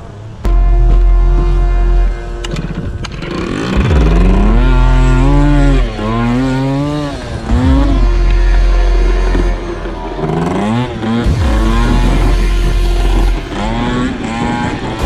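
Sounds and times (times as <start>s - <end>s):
moped engine revving: 0.0s - 15.0s.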